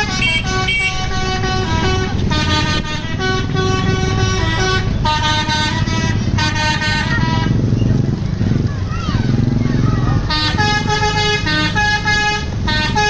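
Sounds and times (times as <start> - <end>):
bus musical air horn: 0.0 - 7.7, 10.2 - 13.0.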